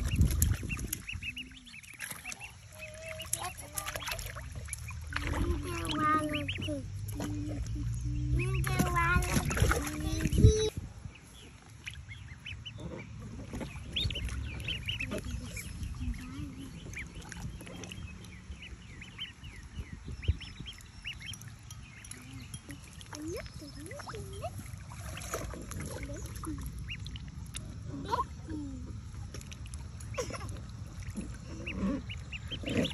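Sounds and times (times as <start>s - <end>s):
ducklings peeping: 0.0s - 32.9s.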